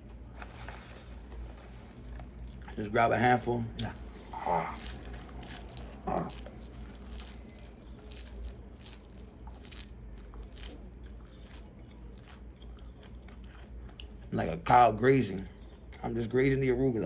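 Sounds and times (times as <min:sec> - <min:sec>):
man chewing leaves: 0:00.0 - 0:16.3.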